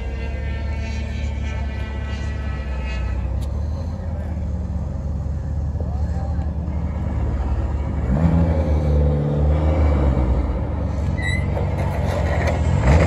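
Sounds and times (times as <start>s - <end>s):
sports car engine revving: 0.0s - 11.2s.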